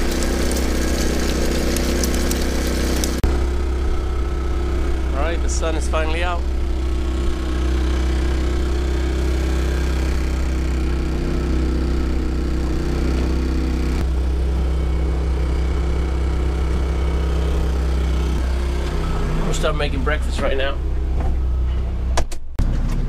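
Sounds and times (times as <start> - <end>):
outboard motor running: 0.0 - 21.4.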